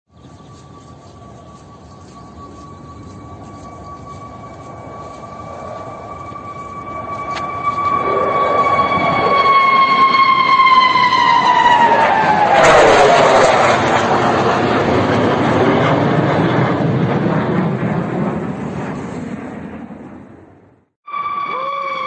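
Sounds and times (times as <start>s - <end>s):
jet engine whine: 0.1s - 22.0s
jet engine roar: 0.2s - 22.0s.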